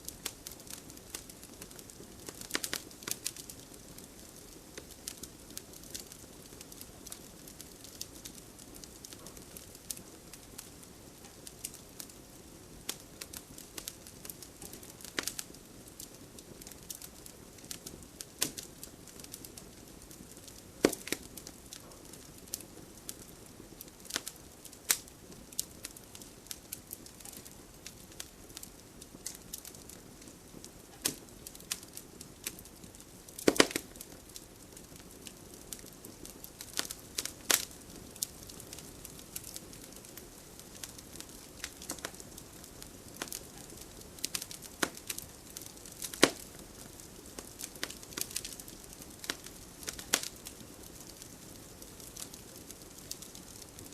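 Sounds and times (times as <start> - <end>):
fireplace fire crackling and popping: 0.0 - 53.9
low hiss: 0.0 - 53.9.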